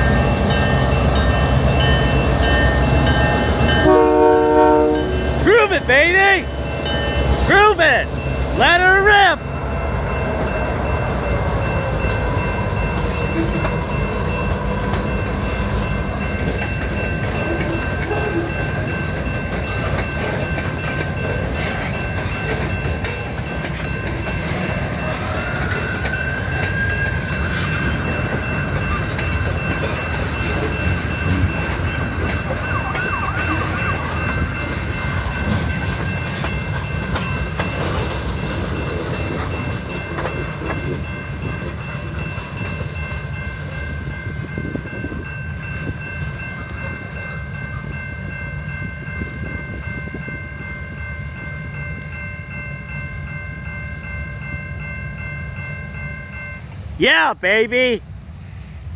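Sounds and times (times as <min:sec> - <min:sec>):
train wheels rumbling on track: 0:00.0 - 0:58.9.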